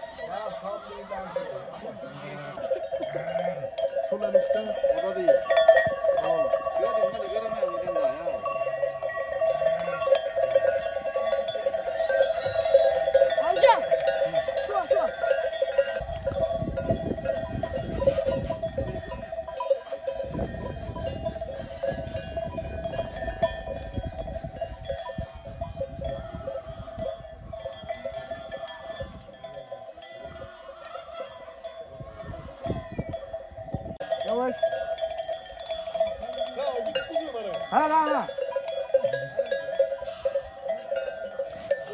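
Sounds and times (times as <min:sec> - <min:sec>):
sheep bells ringing: 0:00.0 - 0:41.9.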